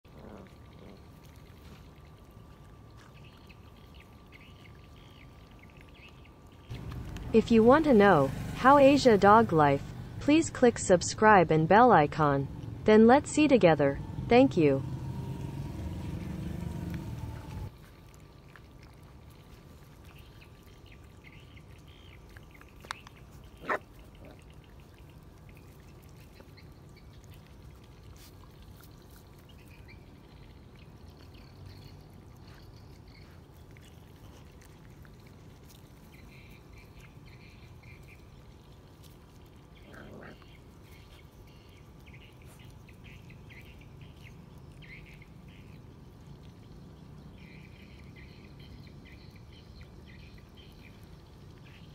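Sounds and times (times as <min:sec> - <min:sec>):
puppies chewing and lapping: 0:00.1 - 0:11.4, 0:15.3 - 0:51.9
low steady rumble: 0:00.1 - 0:51.9.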